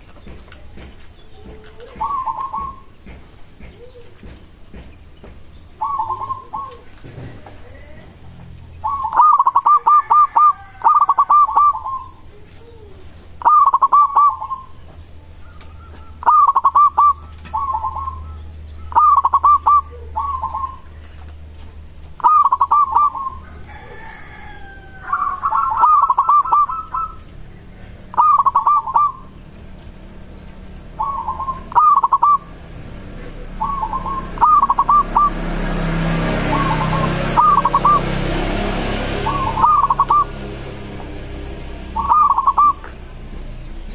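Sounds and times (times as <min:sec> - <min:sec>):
dove cooing: 0:00.0 - 0:04.9, 0:05.8 - 0:08.2, 0:08.8 - 0:43.2.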